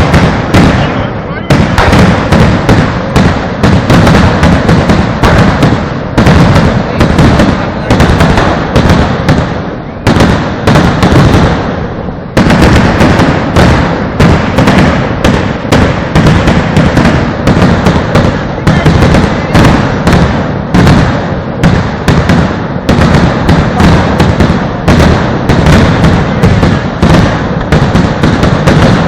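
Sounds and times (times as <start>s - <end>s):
blast rumble: 0.0s - 29.0s
fireworks banging: 0.0s - 29.0s.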